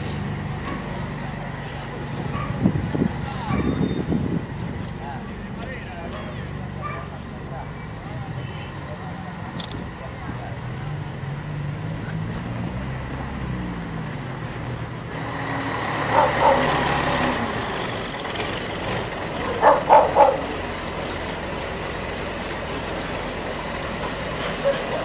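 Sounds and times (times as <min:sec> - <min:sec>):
truck diesel engine running: 0:00.0 - 0:12.2, 0:13.8 - 0:25.0
road noise: 0:00.0 - 0:25.0.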